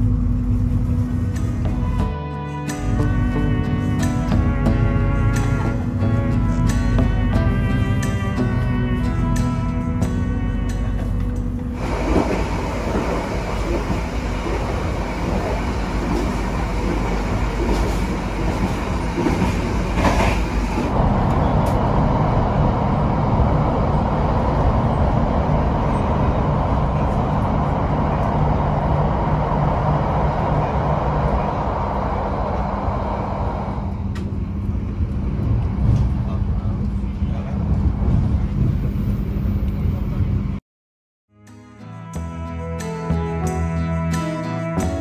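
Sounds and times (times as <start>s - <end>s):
passenger train rumbling on track: 0.0s - 40.6s.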